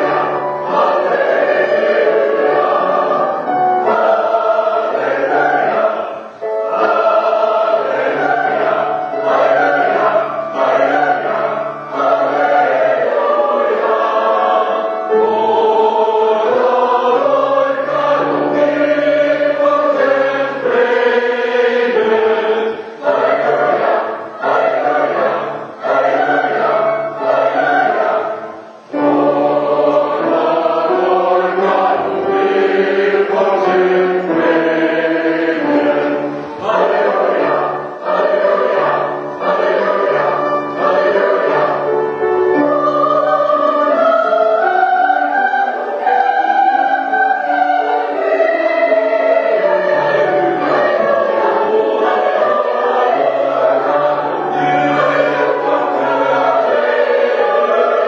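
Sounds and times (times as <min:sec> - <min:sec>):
choir singing sustained chords: 0:00.0 - 0:58.0.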